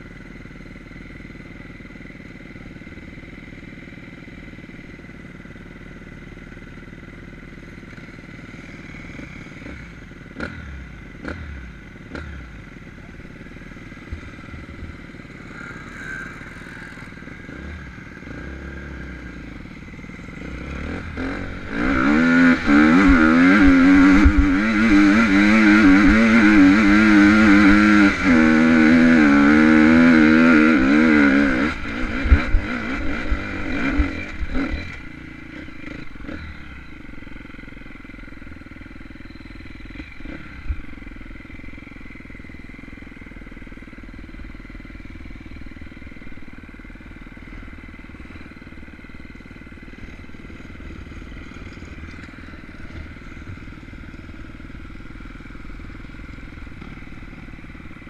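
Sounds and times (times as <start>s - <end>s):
dirt bike engine revving: 2.2s - 58.0s.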